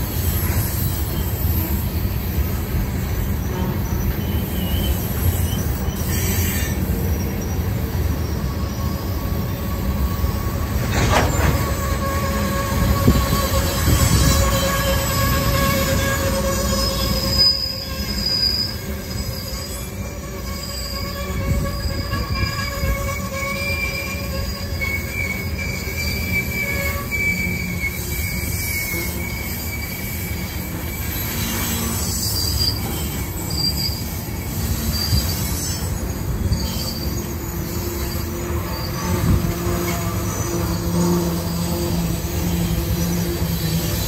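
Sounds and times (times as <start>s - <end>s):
freight train rumbling past: 0.0s - 44.0s
train wheels squealing: 0.0s - 44.0s.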